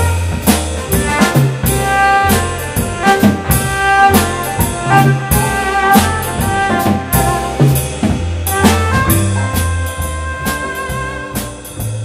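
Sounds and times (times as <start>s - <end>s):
drum kit: 0.0s - 12.0s
keyboards: 0.0s - 12.0s
plucked double bass: 0.0s - 12.0s.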